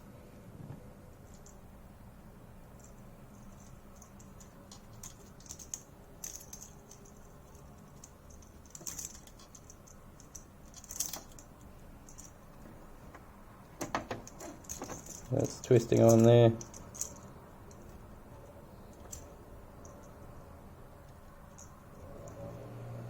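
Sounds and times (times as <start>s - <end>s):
metal parts clicking and scraping: 1.2s - 1.7s, 2.6s - 20.3s, 21.0s - 22.4s.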